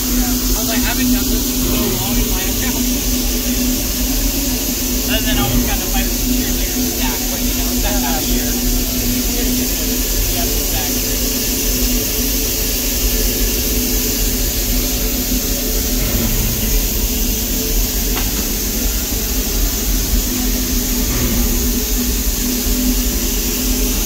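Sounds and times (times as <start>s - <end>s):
constant low hum: 0.0s - 10.9s, 14.5s - 24.0s
steam hissing: 0.0s - 24.0s.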